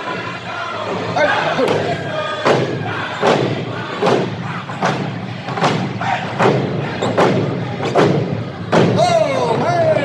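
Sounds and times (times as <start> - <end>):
heavy rhythmic thuds: 0.0 - 10.0.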